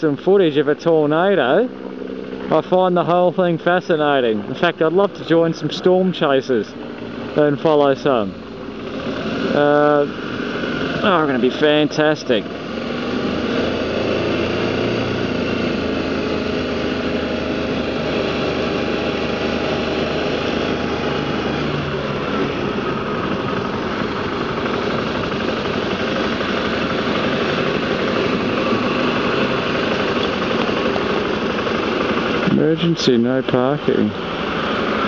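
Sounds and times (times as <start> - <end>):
motorcycle engine running: 0.0 - 35.0
road noise: 0.0 - 35.0.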